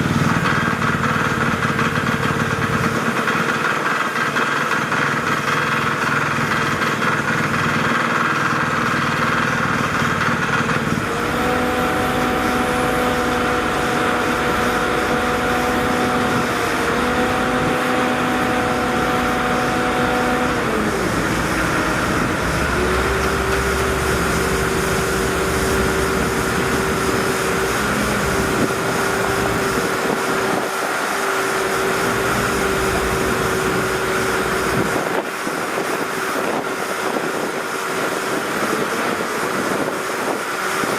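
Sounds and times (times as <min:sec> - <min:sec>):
engine rumble: 0:00.0 - 0:40.9
steady whine: 0:00.0 - 0:40.9.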